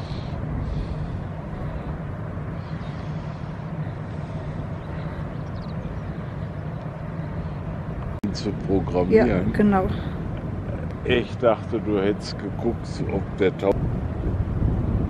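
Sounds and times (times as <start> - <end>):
ship machinery humming: 0.0 - 15.0.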